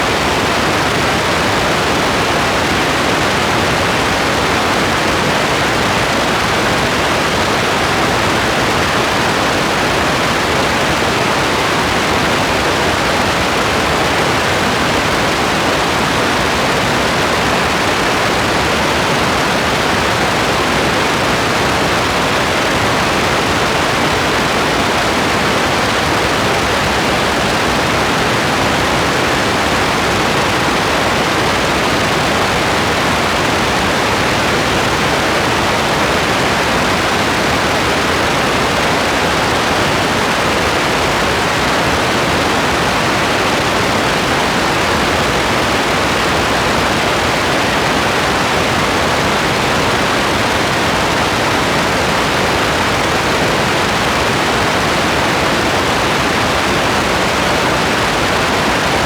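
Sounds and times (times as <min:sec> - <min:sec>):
dense steady rain: 0:00.0 - 0:59.0.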